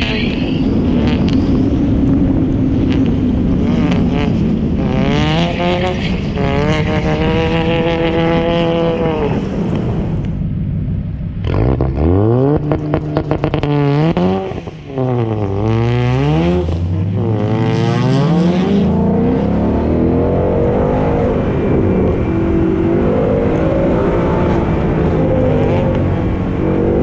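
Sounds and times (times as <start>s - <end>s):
car engine revving hard: 2.9s - 9.8s, 11.4s - 27.0s.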